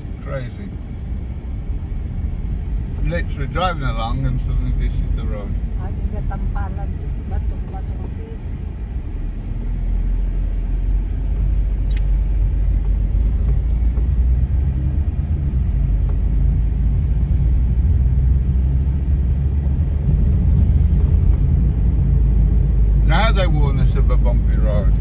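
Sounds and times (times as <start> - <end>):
car driving on rough road: 0.0 - 25.0.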